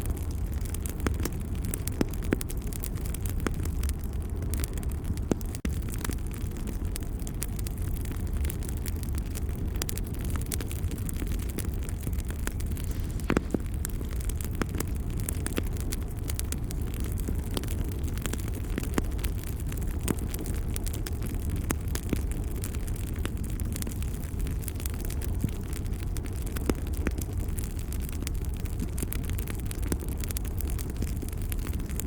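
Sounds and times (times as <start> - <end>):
fire crackling and popping: 0.0 - 32.0
fire rumbling: 0.0 - 32.0.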